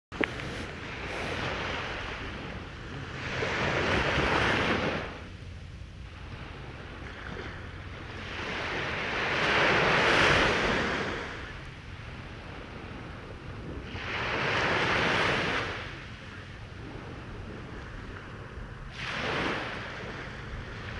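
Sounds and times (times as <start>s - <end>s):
wind rumble on microphone: 0.1s - 20.9s
waves breaking on beach: 0.2s - 20.9s.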